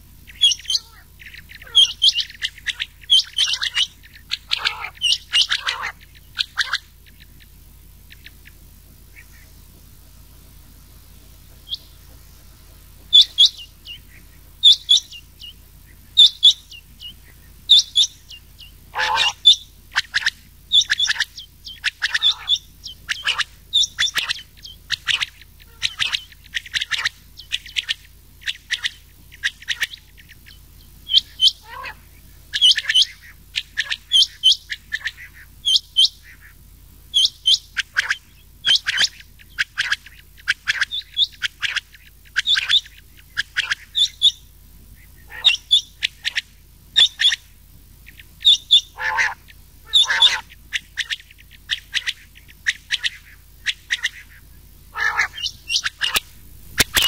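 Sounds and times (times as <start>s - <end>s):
quail calls: 0.2s - 9.7s, 10.3s - 57.0s.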